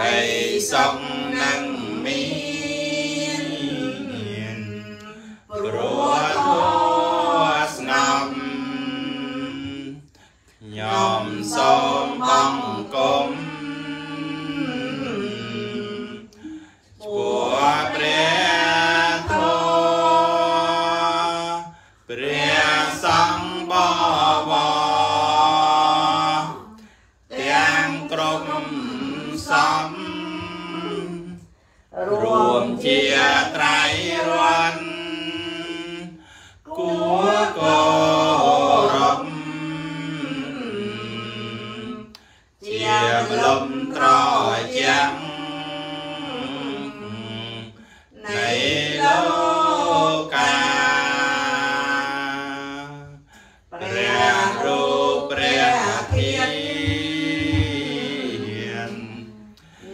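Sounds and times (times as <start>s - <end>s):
melodic prayer chanting: 0.0s - 59.9s.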